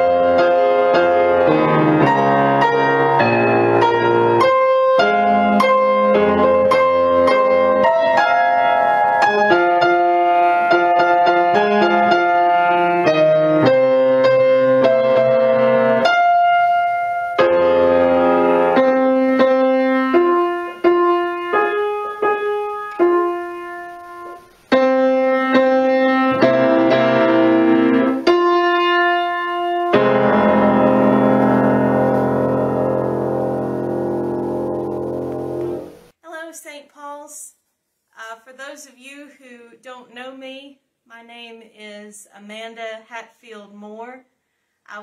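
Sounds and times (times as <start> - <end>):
piano playing slow chords: 0.0 - 36.1.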